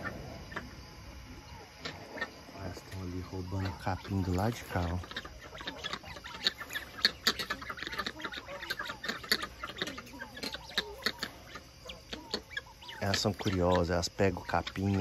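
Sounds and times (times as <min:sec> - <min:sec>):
guineafowl soft calls: 0:00.0 - 0:15.0.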